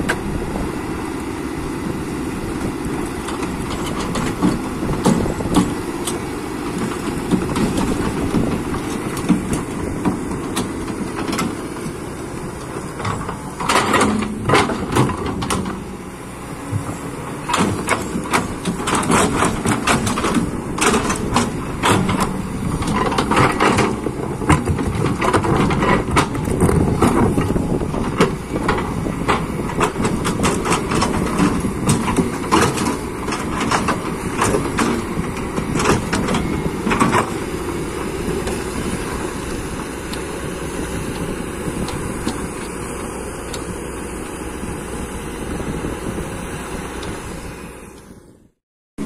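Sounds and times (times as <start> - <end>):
excavator engine running: 0.0 - 48.6.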